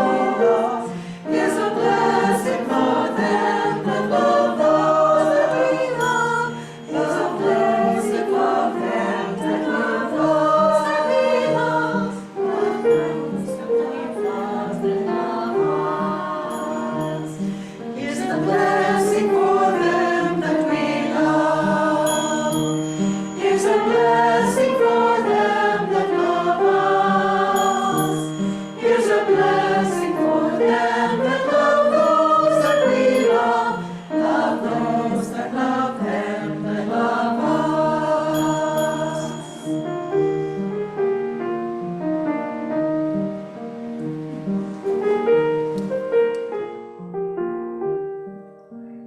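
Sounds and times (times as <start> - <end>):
choir singing a hymn: 0.0 - 40.8
piano accompaniment: 0.0 - 49.0.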